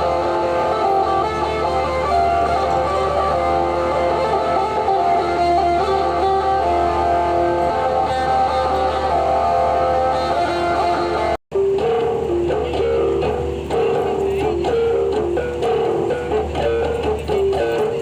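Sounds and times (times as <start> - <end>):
guitar background music: 0.0 - 18.0.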